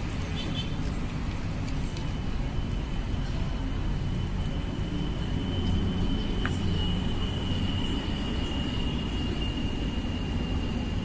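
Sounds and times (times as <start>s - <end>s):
low engine rumble: 0.0s - 11.0s
thin high whine: 2.2s - 11.0s.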